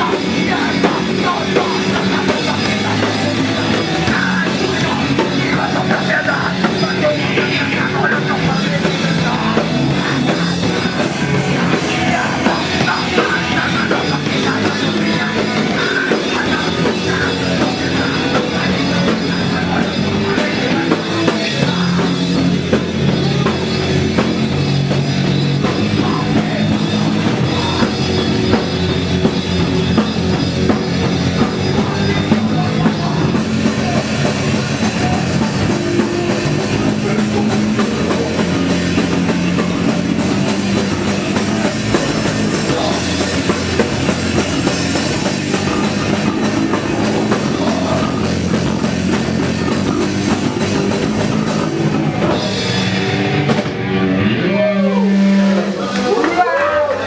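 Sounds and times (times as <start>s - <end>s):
drum kit and cymbals: 0.0s - 57.0s
live rock band playing: 0.0s - 57.0s.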